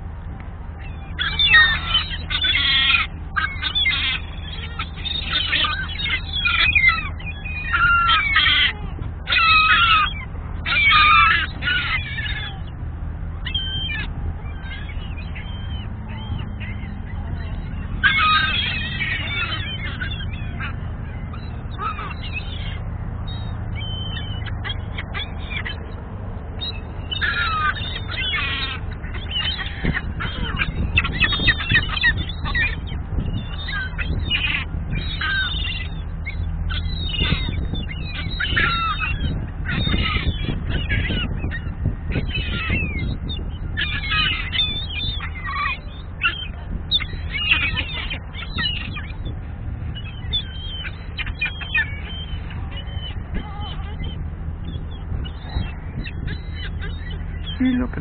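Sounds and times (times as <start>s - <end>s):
gulls squawking: 0.0s - 58.0s
steady low rumble: 0.0s - 58.0s.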